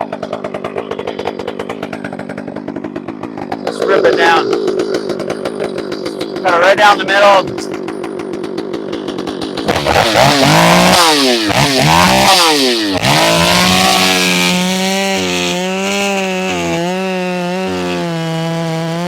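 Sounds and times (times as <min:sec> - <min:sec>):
chainsaw cutting log: 0:00.0 - 0:19.0
chainsaw revving: 0:00.0 - 0:19.0.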